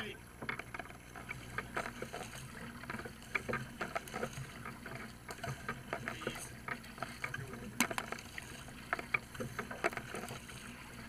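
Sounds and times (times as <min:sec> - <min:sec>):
paddle blades splashing water: 0:00.0 - 0:11.0.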